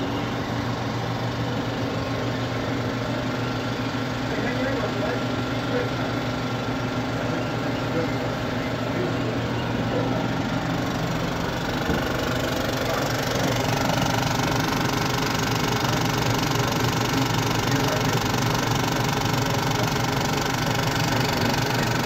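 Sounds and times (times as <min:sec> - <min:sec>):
film projector clatter and hum: 0:00.0 - 0:22.0.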